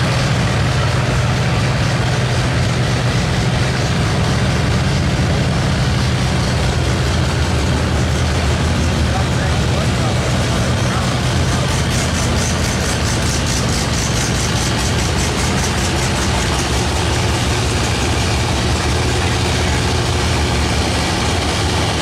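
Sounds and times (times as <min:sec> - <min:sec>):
tractor engine under heavy load: 0:00.0 - 0:22.0.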